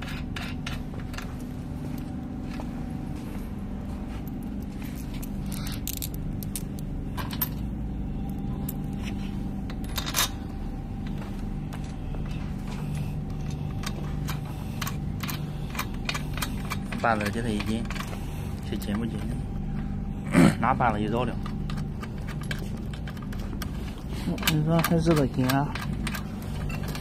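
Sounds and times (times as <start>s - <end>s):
metal parts clinking and scraping: 0.0s - 2.6s, 4.3s - 11.2s, 11.8s - 19.5s, 20.9s - 27.0s
steady low hum: 0.0s - 27.0s.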